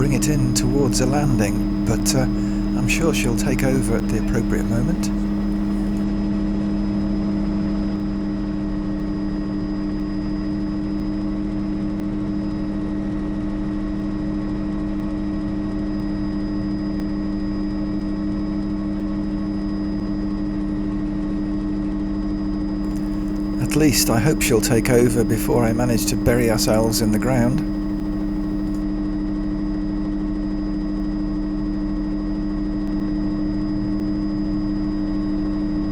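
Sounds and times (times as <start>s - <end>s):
helicopter engine and rotor drone: 0.0s - 35.7s.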